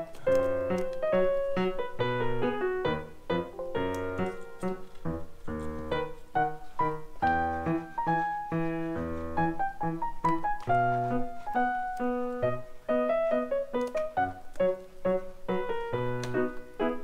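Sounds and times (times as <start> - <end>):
light piano melody: 0.0 - 17.0.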